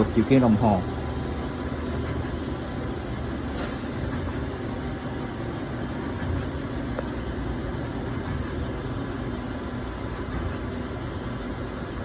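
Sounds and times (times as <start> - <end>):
lathe machine humming: 0.0 - 12.0.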